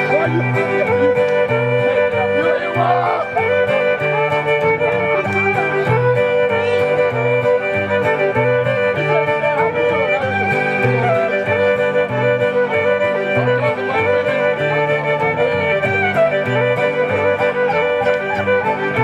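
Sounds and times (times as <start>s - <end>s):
accordion chords: 0.0s - 19.0s
acoustic guitar strumming: 0.0s - 19.0s
fiddle melody: 0.0s - 19.0s.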